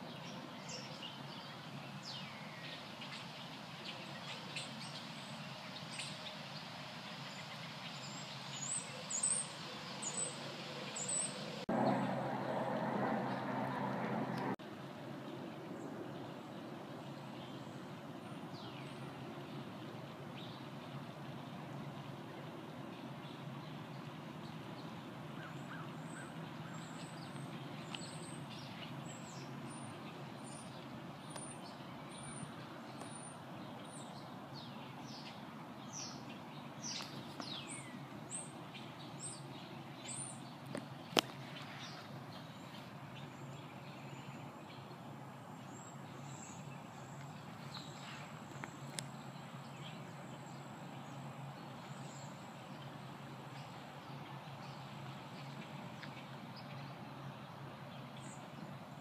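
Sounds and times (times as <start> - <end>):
birds chirping: 0.0 - 14.6, 15.2 - 59.0
low outdoor hum: 0.0 - 59.0.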